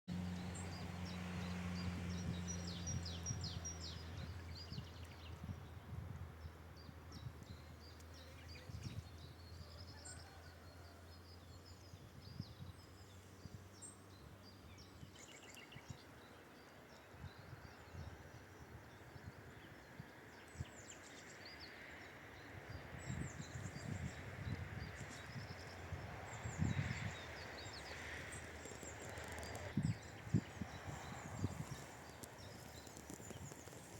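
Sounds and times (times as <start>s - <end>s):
faint songbirds chirping: 0.1s - 33.9s
wind rumble on microphone: 0.1s - 33.9s.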